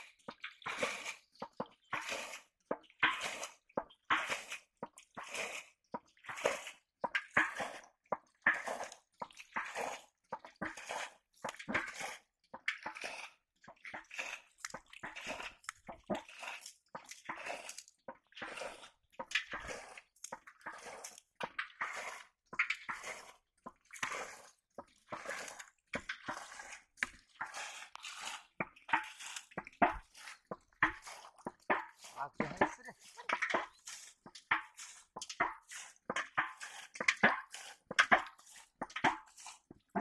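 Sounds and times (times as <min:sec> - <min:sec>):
muddy water splashing: 0:00.0 - 0:40.0.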